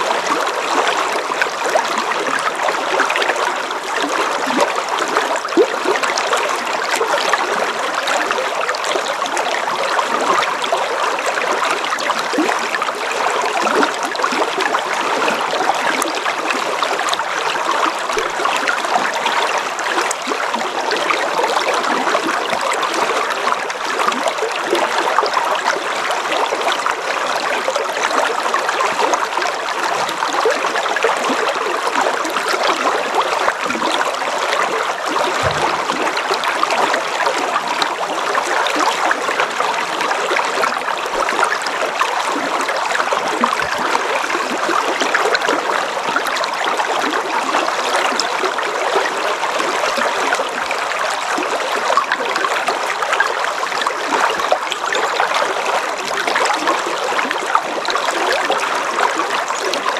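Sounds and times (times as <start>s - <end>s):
river water babbling: 0.0s - 59.9s.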